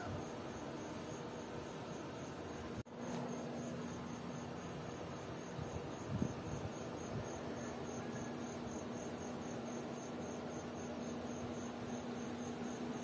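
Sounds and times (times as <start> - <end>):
cricket chirping: 0.0 - 13.0
low hum and hiss: 0.0 - 13.0.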